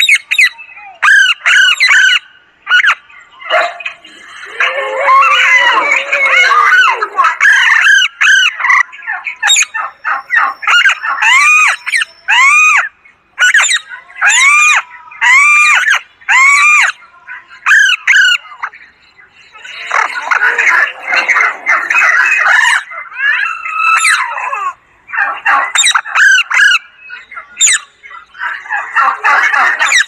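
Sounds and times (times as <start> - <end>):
parakeet calling loudly: 0.0 - 17.0, 17.6 - 18.6, 19.5 - 30.0.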